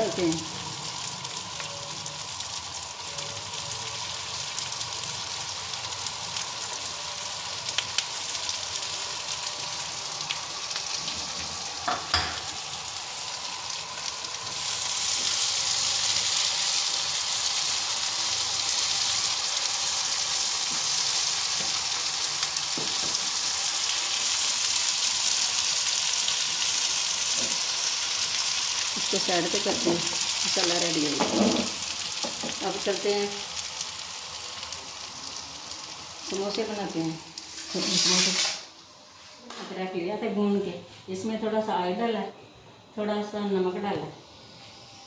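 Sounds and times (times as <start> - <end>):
food sizzling in oil: 0.0 - 39.4.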